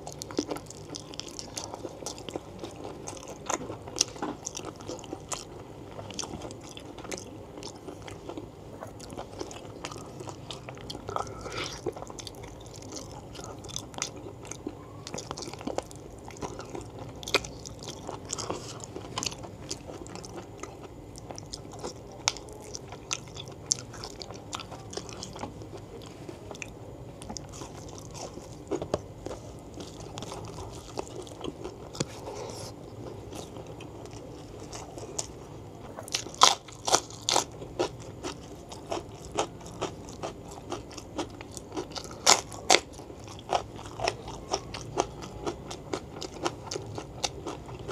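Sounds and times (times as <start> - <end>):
person chewing: 0.0 - 47.9.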